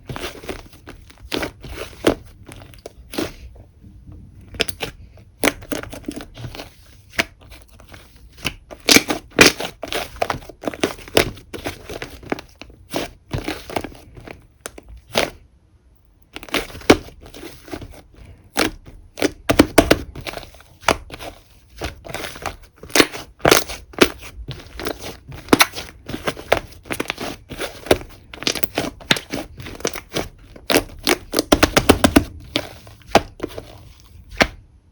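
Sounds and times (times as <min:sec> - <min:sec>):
slime squished by hand: 0:04.5 - 0:15.4, 0:16.3 - 0:34.6.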